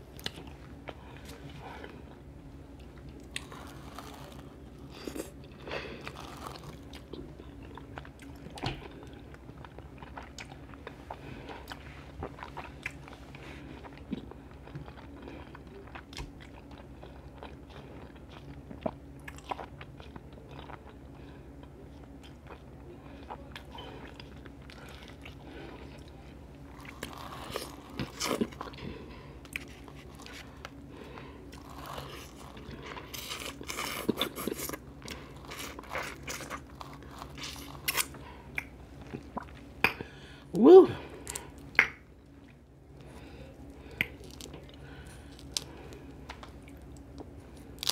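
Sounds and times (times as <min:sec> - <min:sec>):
faint steady hum: 0:00.0 - 0:47.9
wet chewing and smacking: 0:00.1 - 0:40.1, 0:41.2 - 0:47.9.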